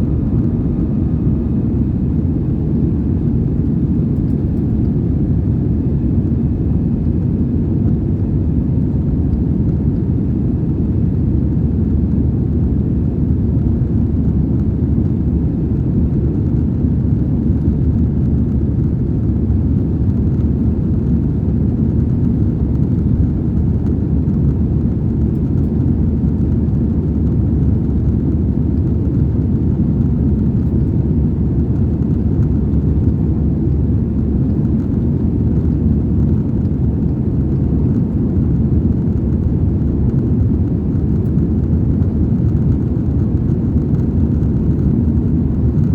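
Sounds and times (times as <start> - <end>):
jet engines rumbling in cabin: 0.0 - 45.9.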